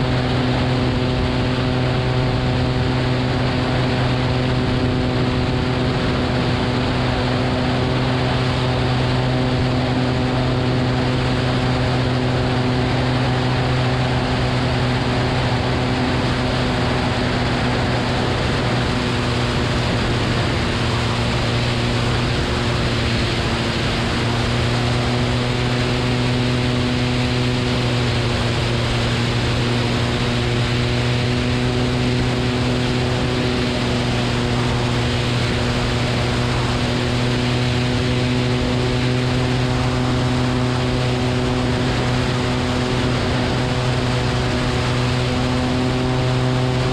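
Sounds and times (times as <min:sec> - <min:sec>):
propeller aircraft engine running: 0:00.0 - 0:46.9
wind rushing on microphone: 0:00.0 - 0:46.9.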